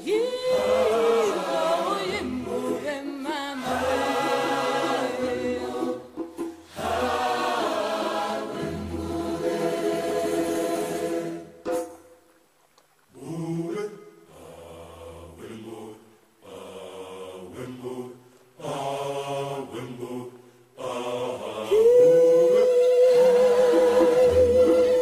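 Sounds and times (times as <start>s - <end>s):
voices singing chant-like chords: 0.0s - 11.6s, 13.2s - 25.0s.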